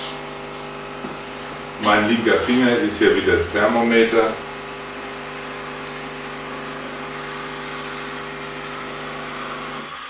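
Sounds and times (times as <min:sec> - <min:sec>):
espresso machine hum: 0:00.0 - 0:10.0.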